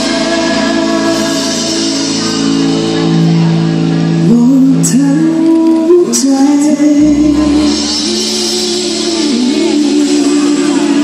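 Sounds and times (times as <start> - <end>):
person singing long held notes: 0.0 - 3.0, 4.1 - 11.0
live band through a pa: 0.0 - 11.0.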